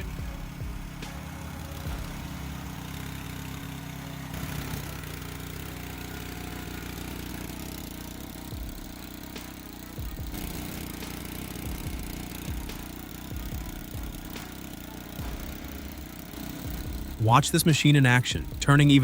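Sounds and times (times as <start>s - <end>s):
machine engine running: 0.0s - 19.0s.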